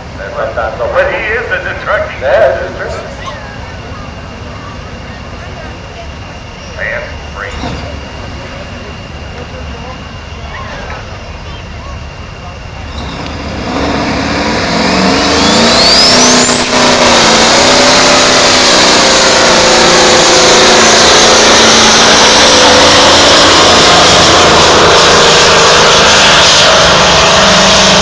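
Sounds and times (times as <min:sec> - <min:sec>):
diesel truck engine at full power: 0:00.0 - 0:28.0
high rising whistle: 0:02.9 - 0:28.0.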